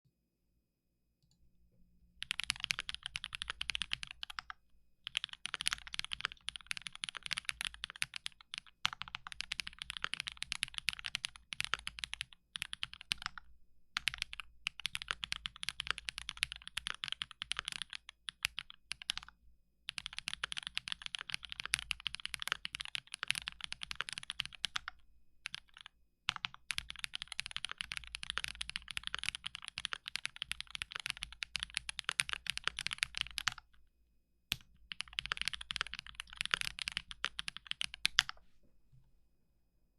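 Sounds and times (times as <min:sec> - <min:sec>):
mechanical keyboard typing: 0:02.2 - 0:19.3, 0:19.9 - 0:33.7, 0:34.5 - 0:38.4.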